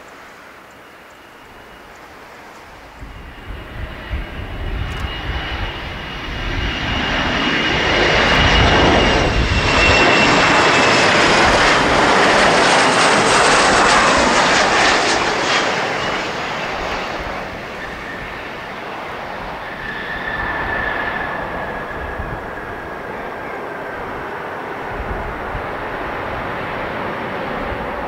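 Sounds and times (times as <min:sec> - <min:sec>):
jet engine whine: 0:00.0 - 0:28.0.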